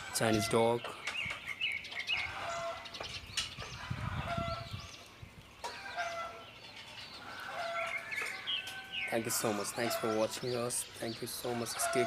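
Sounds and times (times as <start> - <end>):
hens clucking: 0.0 - 1.0, 1.9 - 4.8, 5.6 - 12.0
chicks cheeping: 0.0 - 12.0.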